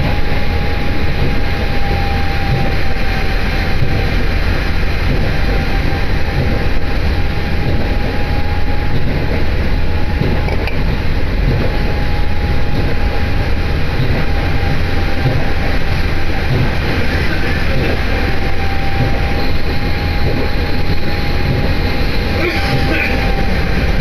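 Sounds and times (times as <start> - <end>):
thin steady whine: 0.0 - 24.0
train engine and wheels rumbling: 0.0 - 24.0.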